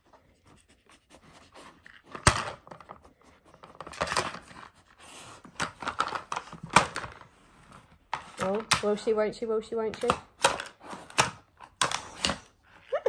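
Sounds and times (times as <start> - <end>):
plastic puzzle clacking and scraping: 0.4 - 13.0.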